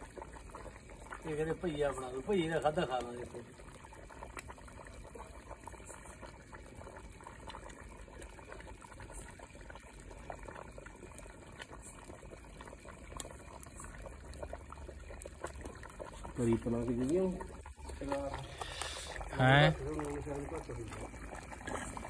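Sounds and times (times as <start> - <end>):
pot of curry bubbling: 0.0 - 22.0.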